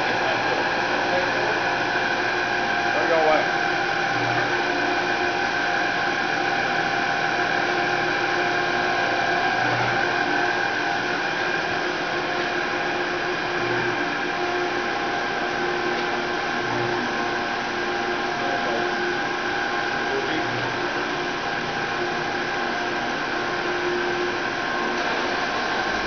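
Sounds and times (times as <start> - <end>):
machine motor hum and whine: 0.0 - 26.0.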